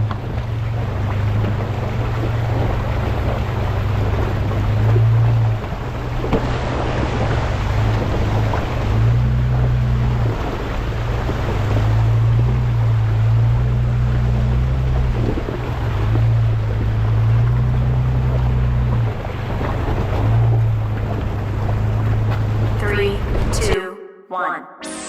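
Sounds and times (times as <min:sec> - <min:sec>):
wind and road noise: 0:00.0 - 0:23.6
vehicle engine drone: 0:00.0 - 0:23.7.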